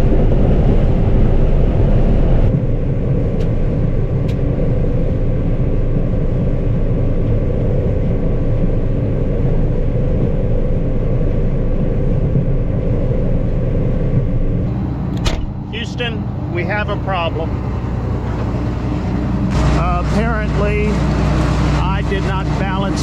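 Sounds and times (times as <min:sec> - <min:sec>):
combine harvester engine drone: 0:00.0 - 0:23.0
steady machine tones: 0:00.0 - 0:23.0.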